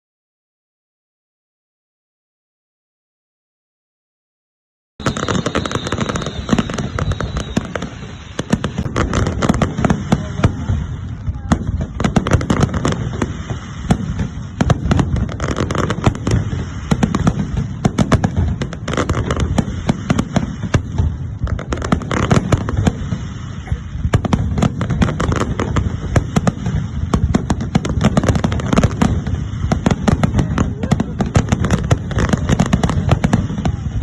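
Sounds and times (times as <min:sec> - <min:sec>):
fireworks bangs and crackling: 0:05.0 - 0:34.0.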